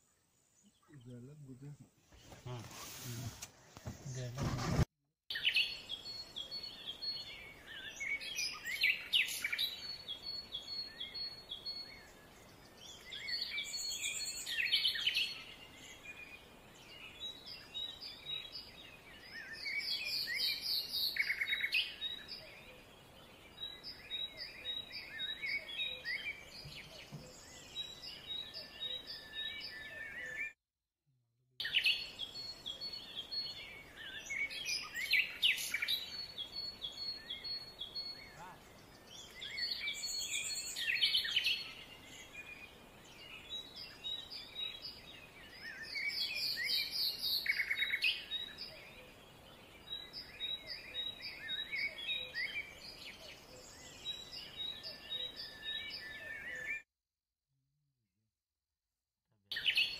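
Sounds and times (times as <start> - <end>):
birds chirping: 0.0 - 30.6, 31.6 - 56.8.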